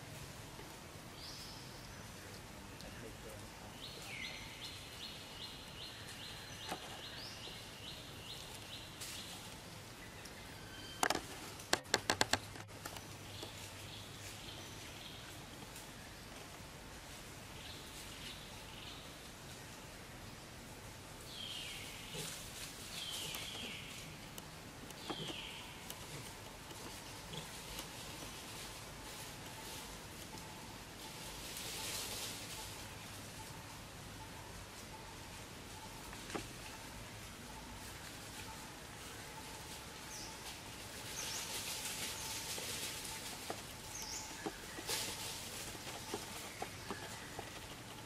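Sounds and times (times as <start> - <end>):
rustles in dry leaves: 0.0 - 48.0.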